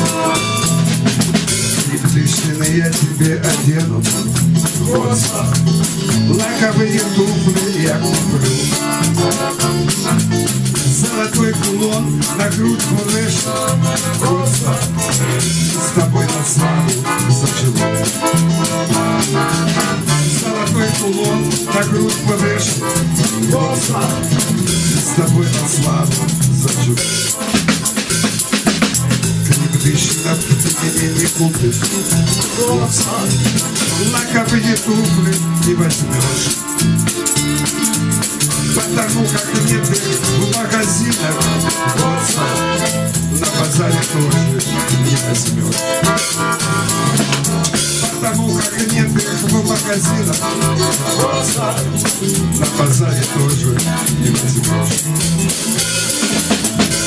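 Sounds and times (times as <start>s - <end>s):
acoustic guitar: 0.0s - 57.0s
button accordion: 0.0s - 57.0s
drum kit: 0.0s - 57.0s
hand shaker: 0.0s - 57.0s.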